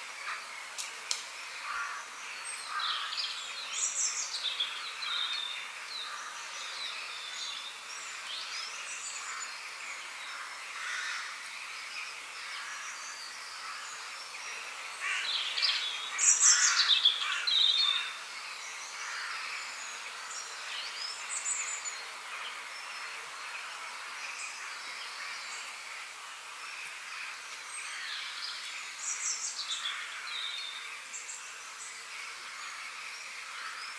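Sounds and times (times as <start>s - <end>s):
steady background hiss: 0.0s - 33.9s.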